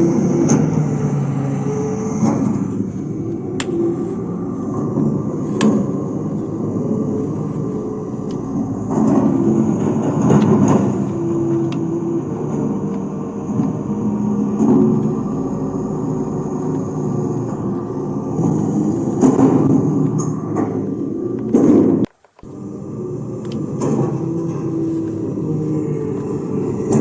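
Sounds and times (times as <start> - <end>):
toy electric motors whirring: 0.0 - 27.0.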